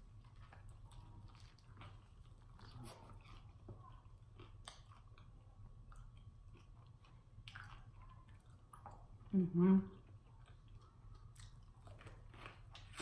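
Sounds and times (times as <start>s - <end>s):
chewing crispy chicken: 0.0s - 13.0s.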